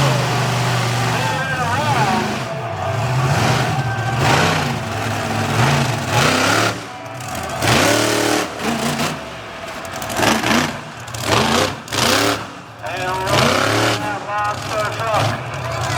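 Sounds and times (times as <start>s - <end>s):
truck engine revving: 0.0s - 15.9s.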